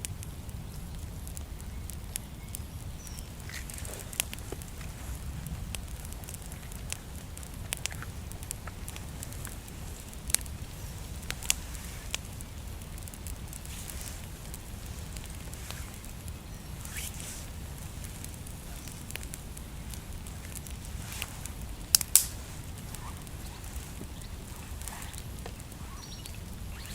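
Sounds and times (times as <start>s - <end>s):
campfire crackling and popping: 0.0s - 26.9s
low steady rumble: 0.0s - 26.9s.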